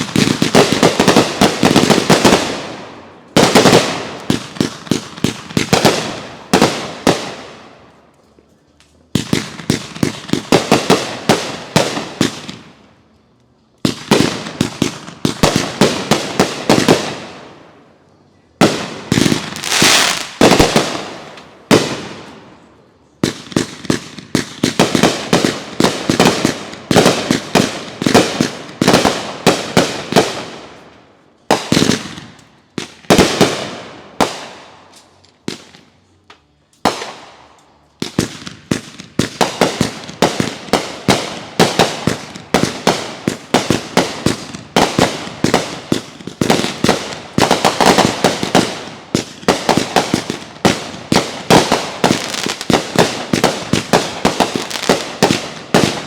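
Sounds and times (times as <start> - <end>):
fireworks bangs and crackles: 0.0 - 18.0, 18.6 - 56.0.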